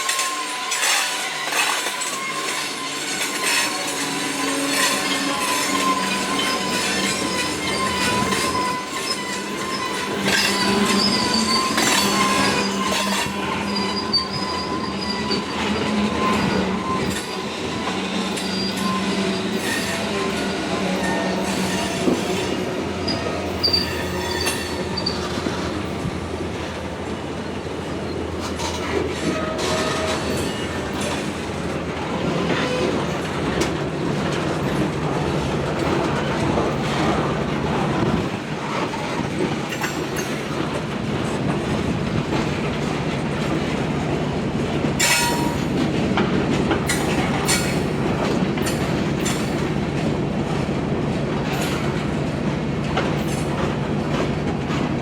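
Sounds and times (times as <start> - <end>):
diesel locomotive engine droning: 0.0 - 54.8
steel wheels squealing on rails: 0.0 - 54.9.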